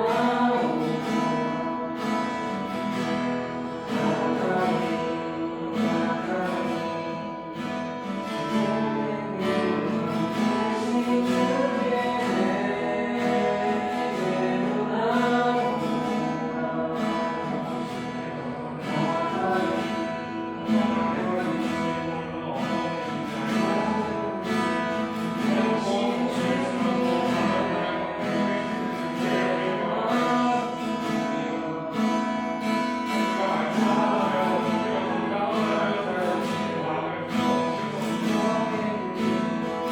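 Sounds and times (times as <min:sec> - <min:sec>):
acoustic guitar strumming: 0:00.0 - 0:39.9
person singing worship song: 0:00.0 - 0:39.9.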